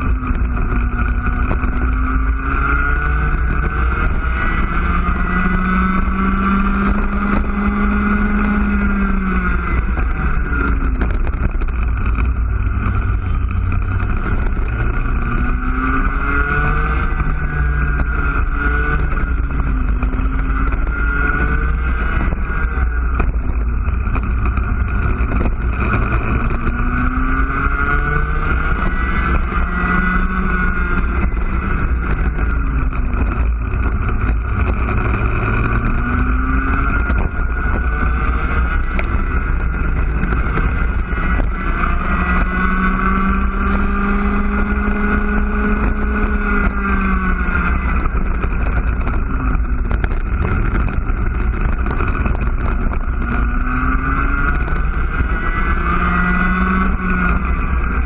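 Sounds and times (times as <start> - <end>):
kart engine at full throttle: 0.0 - 58.0.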